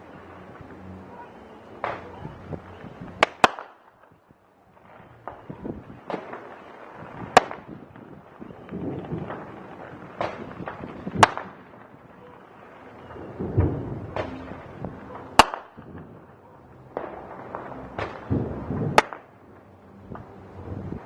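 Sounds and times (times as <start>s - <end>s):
fireworks booming: 0.0s - 21.0s
fireworks cracking: 0.0s - 21.0s.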